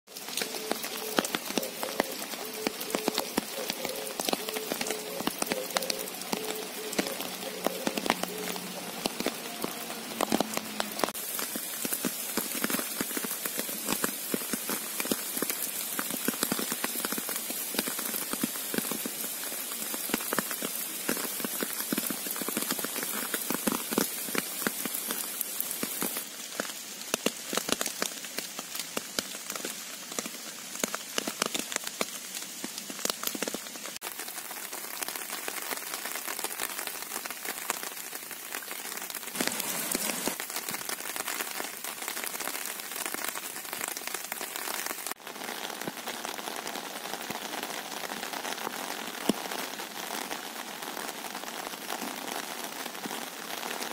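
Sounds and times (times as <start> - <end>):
gentle rain patter: 0.1 - 53.9.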